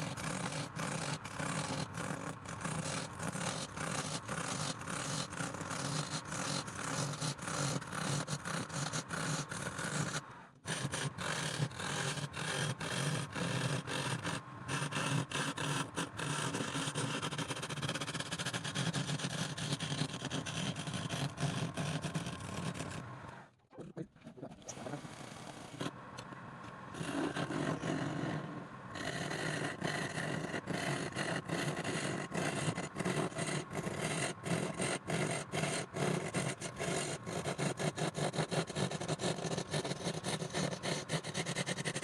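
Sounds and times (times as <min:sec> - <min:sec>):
tool scraping spinning wood: 0:00.0 - 0:23.5, 0:24.2 - 0:42.0.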